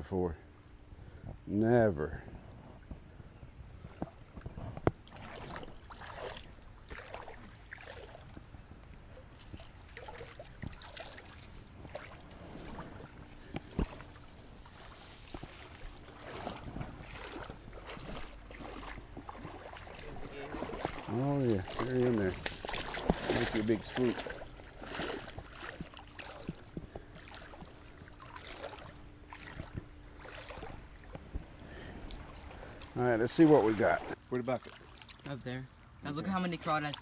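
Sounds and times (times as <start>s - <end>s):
water sloshing and splashing: 3.8s - 37.0s.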